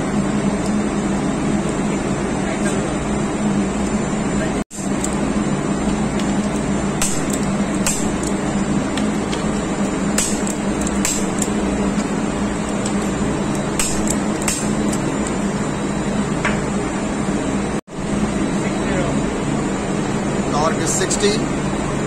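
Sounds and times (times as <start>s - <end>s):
machinery drone: 0.0s - 22.0s.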